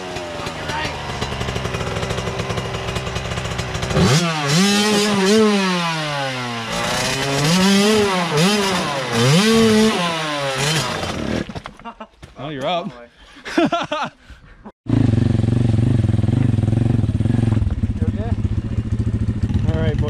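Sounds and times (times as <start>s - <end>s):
dirt bike engine revving: 0.0s - 11.6s, 14.9s - 20.0s.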